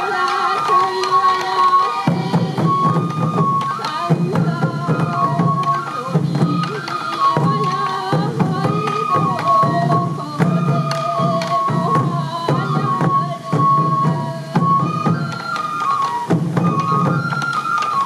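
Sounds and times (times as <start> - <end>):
bamboo flute melody: 0.0 - 18.0
taiko drums beating: 0.0 - 18.0.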